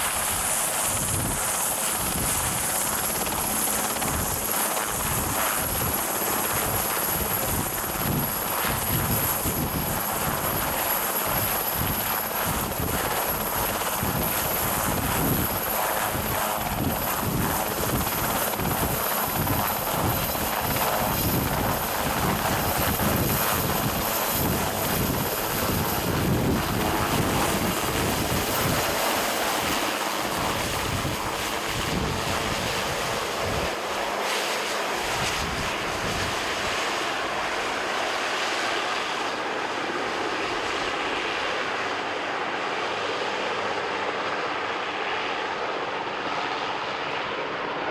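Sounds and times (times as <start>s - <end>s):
helicopter rotor chop: 0.0s - 47.9s
high turbine whine: 0.0s - 47.9s.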